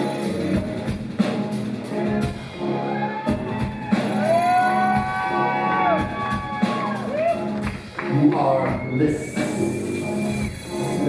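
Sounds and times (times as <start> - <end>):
rock band playing live: 0.0 - 11.0.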